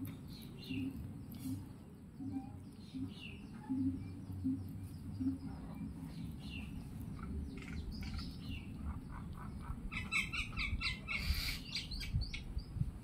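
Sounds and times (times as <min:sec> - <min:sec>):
bird chirping: 0:00.0 - 0:12.9
steady low rumble: 0:00.0 - 0:13.0.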